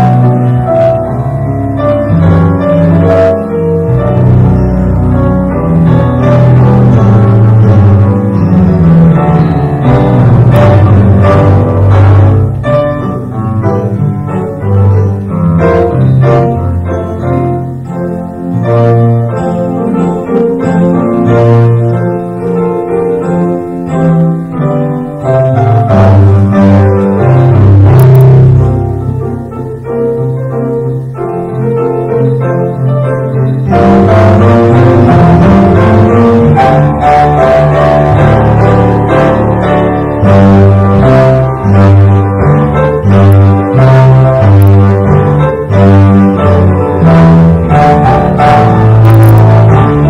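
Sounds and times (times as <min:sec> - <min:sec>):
grand piano music: 0:00.0 - 0:50.0.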